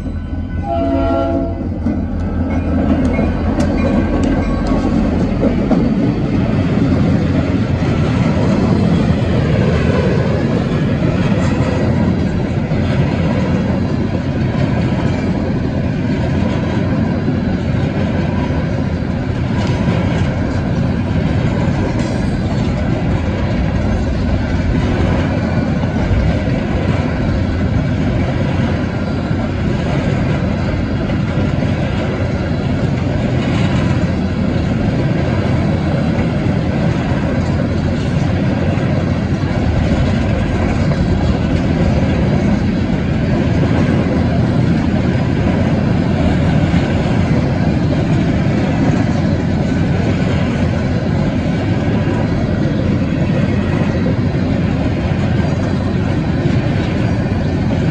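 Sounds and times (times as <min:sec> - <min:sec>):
freight train wheels rumbling on rails: 0:00.0 - 0:57.9.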